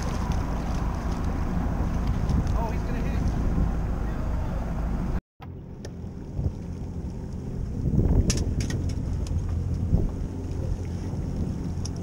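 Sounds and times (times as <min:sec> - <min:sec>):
wind buffeting microphone: 0:00.0 - 0:05.2, 0:05.9 - 0:12.0
boat engine idling: 0:00.0 - 0:12.0.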